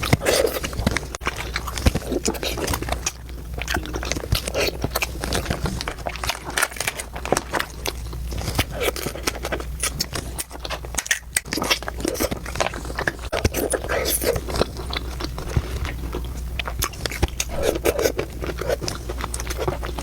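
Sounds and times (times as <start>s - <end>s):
chewing and crunching food: 0.0s - 20.0s.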